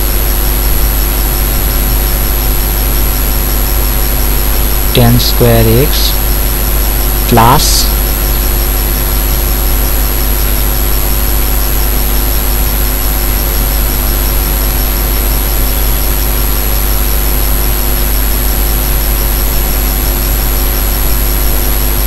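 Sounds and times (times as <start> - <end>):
steady background hum and hiss: 0.0 - 22.0.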